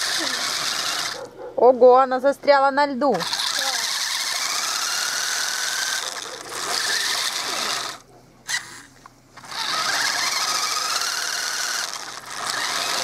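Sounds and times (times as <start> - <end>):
toy electric motor whining: 0.0 - 1.3, 3.1 - 13.0.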